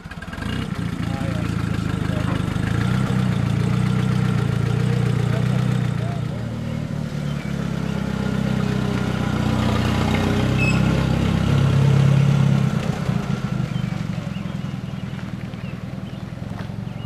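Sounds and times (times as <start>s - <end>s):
jeep engine running: 0.0s - 17.0s.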